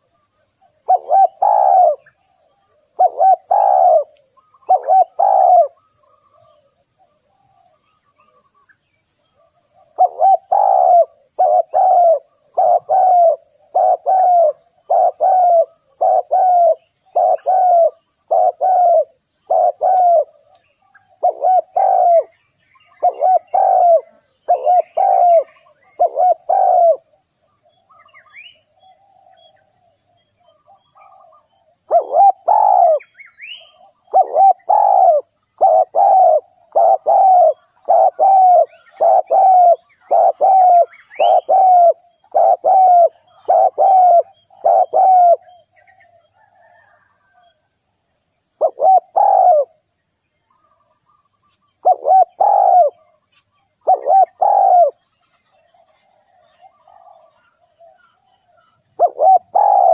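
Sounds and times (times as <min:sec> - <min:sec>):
dove cooing: 0:00.0 - 0:08.6, 0:09.4 - 0:27.2, 0:27.9 - 0:47.5, 0:48.6 - 0:49.9, 0:51.7 - 0:59.9
faint small bird chirps: 0:00.0 - 0:47.7, 0:48.5 - 0:59.9.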